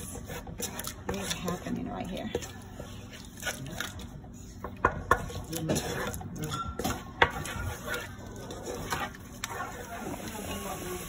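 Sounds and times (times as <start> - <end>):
wooden spoon scraping metal pot: 0.0 - 10.8.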